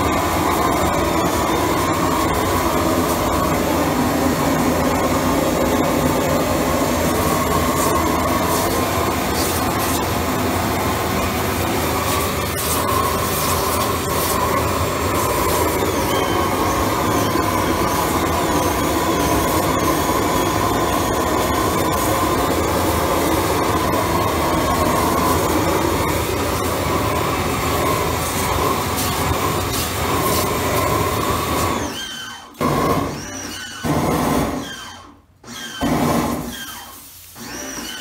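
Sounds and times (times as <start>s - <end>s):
steam cleaner jet spraying: 0.0s - 31.9s, 35.9s - 38.0s
torch burning: 0.0s - 31.9s.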